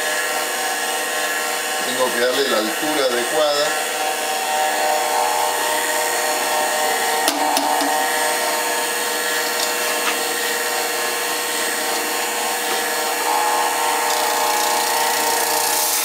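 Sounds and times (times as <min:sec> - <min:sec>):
drum sander humming and whining: 0:00.0 - 0:16.0
dust collector running: 0:00.0 - 0:16.0.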